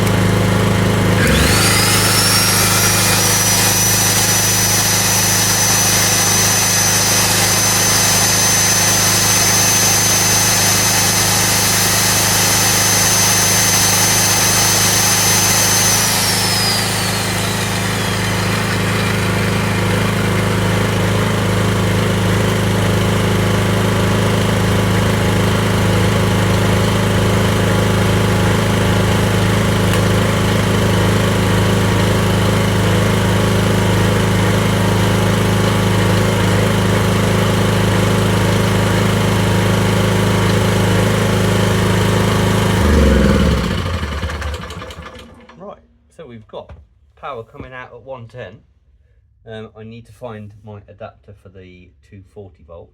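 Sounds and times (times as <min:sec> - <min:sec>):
electric tool whining: 0:00.0 - 0:45.6
generator engine running: 0:00.0 - 0:45.6.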